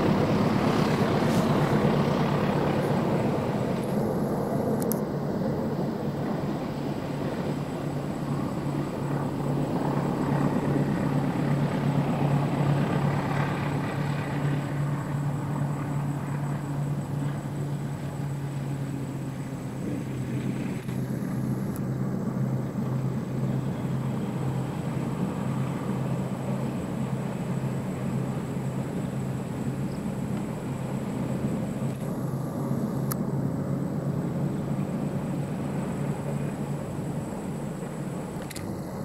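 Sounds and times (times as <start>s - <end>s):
distant diesel locomotive drone: 0.0s - 39.0s
train rushing noise: 0.0s - 39.0s.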